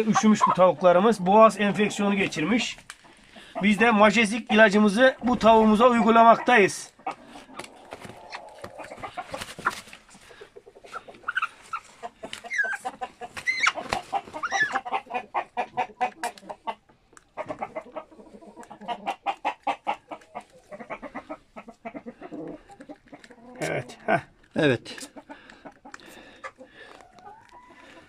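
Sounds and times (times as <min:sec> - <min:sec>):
chicken bending calls: 0:00.0 - 0:28.0
chickens clucking: 0:00.0 - 0:28.0.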